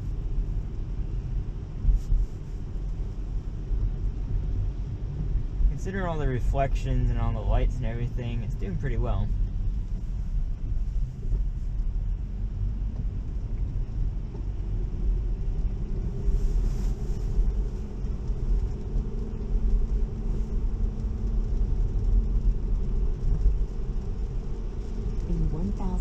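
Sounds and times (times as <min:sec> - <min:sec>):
road and tyre rumble in car: 0:00.0 - 0:26.0.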